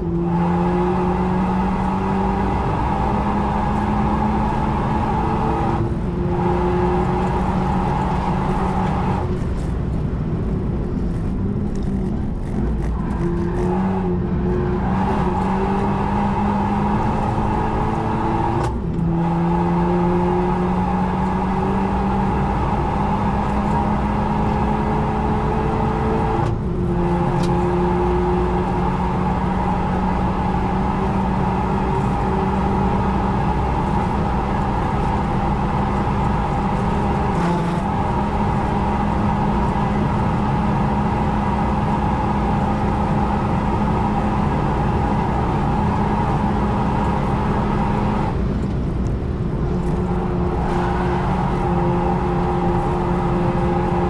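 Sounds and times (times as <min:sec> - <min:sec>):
car engine at full throttle: 0:00.0 - 0:54.0
gear upshift: 0:00.0 - 0:54.0.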